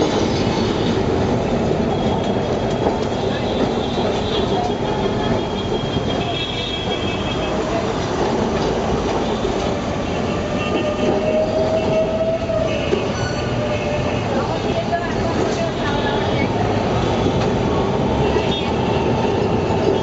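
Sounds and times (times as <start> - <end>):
electric tram running: 0.0 - 20.0.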